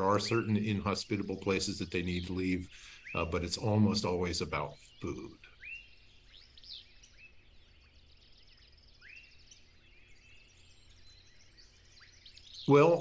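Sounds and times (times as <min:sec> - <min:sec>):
high bird chirps: 0:00.0 - 0:13.0
low steady hum: 0:00.0 - 0:13.0.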